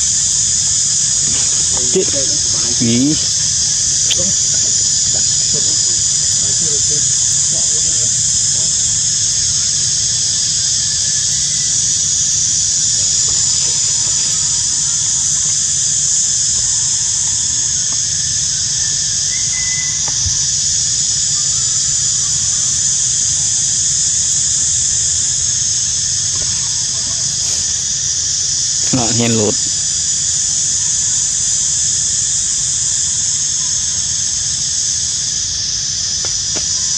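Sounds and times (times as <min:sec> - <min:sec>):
cicadas droning: 0:00.0 - 0:36.9.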